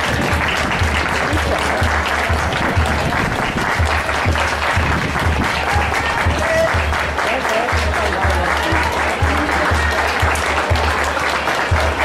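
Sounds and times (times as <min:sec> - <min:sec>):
bass drum marching rhythm: 0:00.0 - 0:12.0
spectators applauding: 0:00.0 - 0:12.0.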